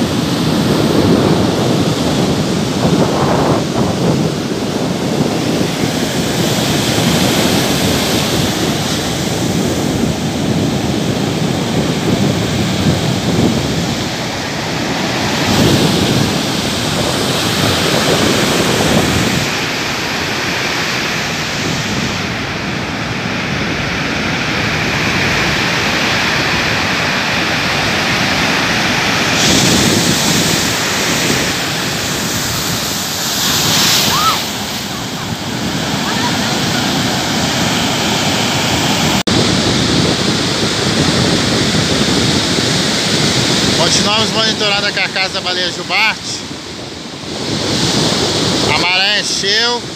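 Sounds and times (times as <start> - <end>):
ocean surf breaking on sand: 0.0 - 49.9
wind buffeting microphone: 0.0 - 49.9.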